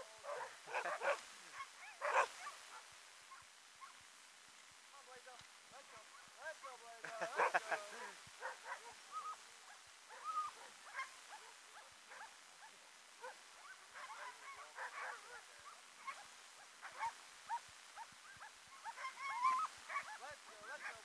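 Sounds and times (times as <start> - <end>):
sled dogs yipping and barking: 0.0 - 4.0, 5.8 - 21.0.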